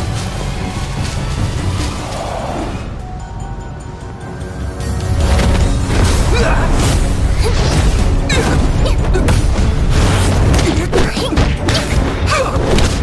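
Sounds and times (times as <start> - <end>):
loud soundtrack music: 0.0 - 13.0.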